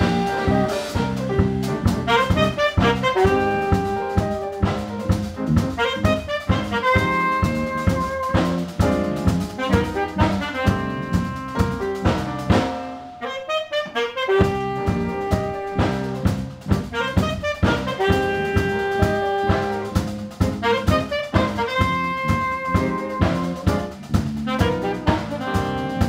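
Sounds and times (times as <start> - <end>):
jazz quartet playing: 0.0 - 26.0
saxophone lead: 0.0 - 26.0.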